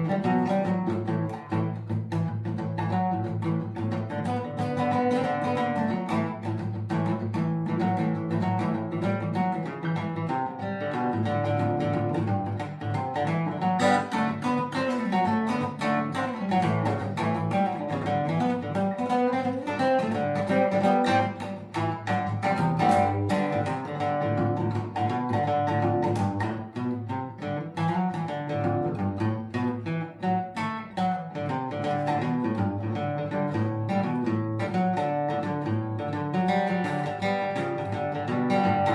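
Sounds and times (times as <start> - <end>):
acoustic guitar music: 0.0 - 38.9.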